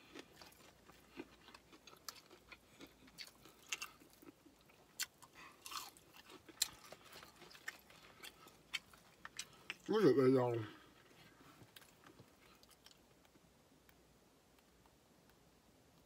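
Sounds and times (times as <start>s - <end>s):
person chewing crispy food: 0.0s - 13.4s.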